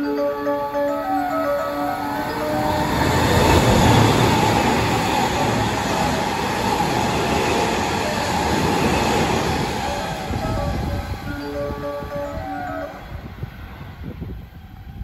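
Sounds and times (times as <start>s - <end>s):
train wheels on rail: 2.1s - 15.0s.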